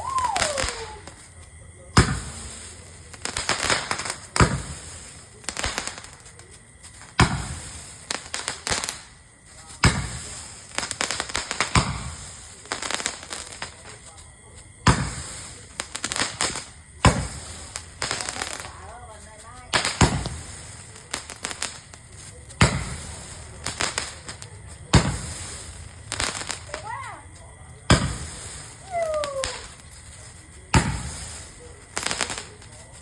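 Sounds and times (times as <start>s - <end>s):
crackling firework pops: 0.0s - 33.0s
firework bangs: 0.0s - 33.0s.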